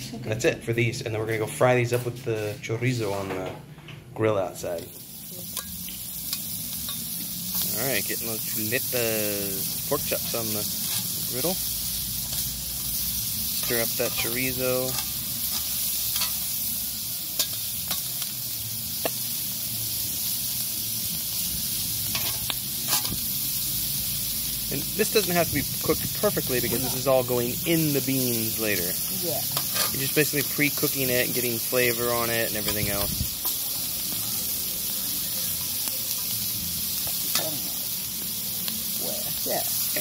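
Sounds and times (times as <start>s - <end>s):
meat sizzling on a griddle: 4.6s - 40.0s.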